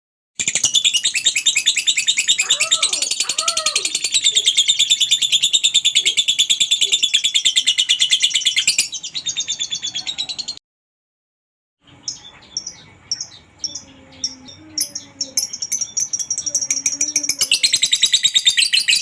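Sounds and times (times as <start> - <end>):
bird chattering trill: 0.4 - 10.6, 11.8 - 19.0
bird chirps: 0.4 - 10.6, 11.8 - 19.0.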